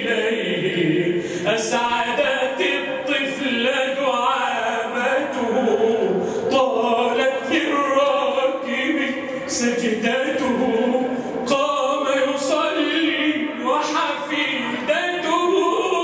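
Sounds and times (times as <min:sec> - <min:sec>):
men singing unaccompanied: 0:00.0 - 0:16.0.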